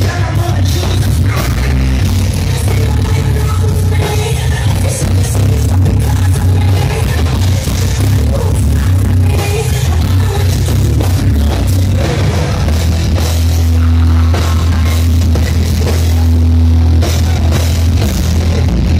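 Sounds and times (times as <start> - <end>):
heavy metal band playing: 0.0 - 18.9.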